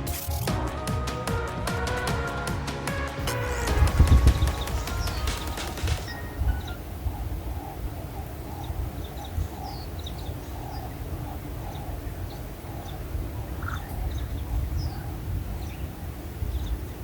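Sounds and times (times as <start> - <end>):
birds chirping: 0.0 - 17.0
steady low rumble: 0.5 - 15.7
lower bird call: 0.6 - 16.9.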